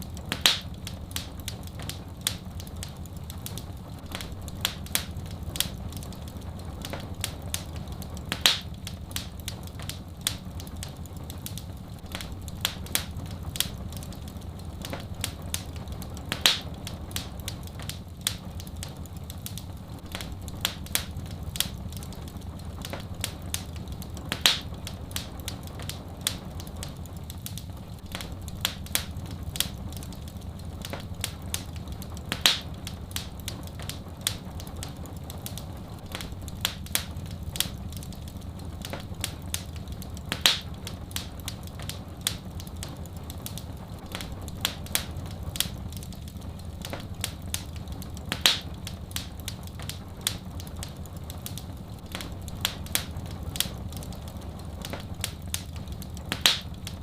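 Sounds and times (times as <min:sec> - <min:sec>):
low fire rumble: 0:00.0 - 0:57.0
wood fire crackling and popping: 0:00.0 - 0:57.0
loud wood crack: 0:00.1 - 0:57.0.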